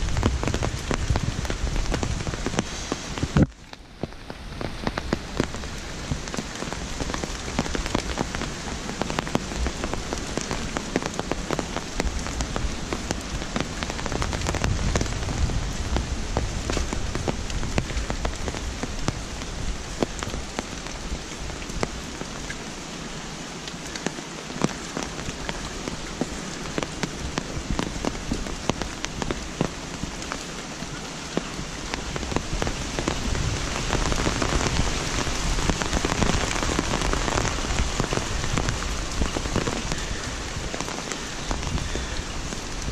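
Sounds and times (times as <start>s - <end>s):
rain falling on leaves and paving: 0.0s - 42.9s.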